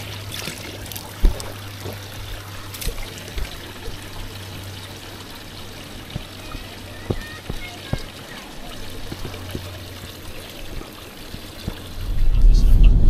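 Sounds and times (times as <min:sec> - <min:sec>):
water running and trickling: 0:00.0 - 0:12.8.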